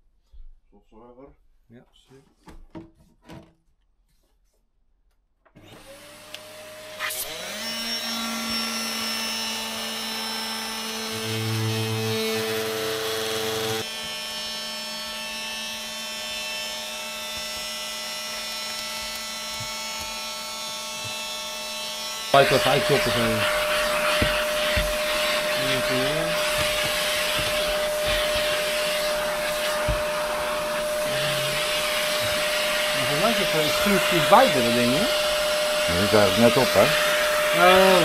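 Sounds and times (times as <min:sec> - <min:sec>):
power tool cutting wood: 0:05.6 - 0:38.0
vacuum cleaner whining: 0:05.6 - 0:38.0.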